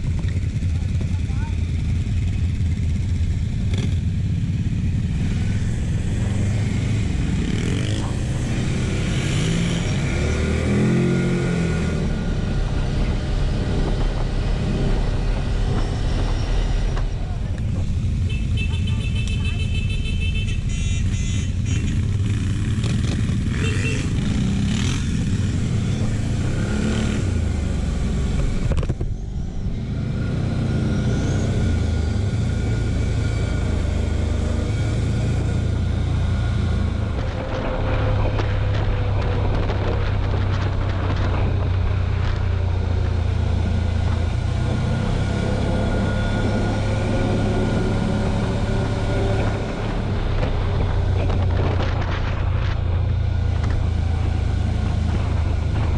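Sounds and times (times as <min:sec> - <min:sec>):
quad bike engine droning: 0:00.0 - 0:55.9
wind and road noise: 0:00.0 - 0:55.9.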